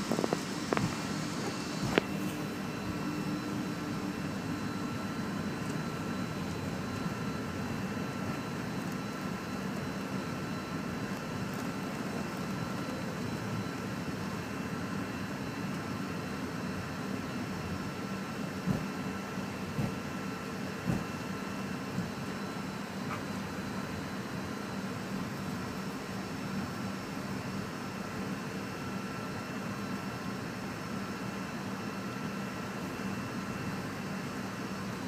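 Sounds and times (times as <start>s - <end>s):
aircraft cabin drone: 0.0s - 35.0s
faint whine tones: 0.0s - 35.0s.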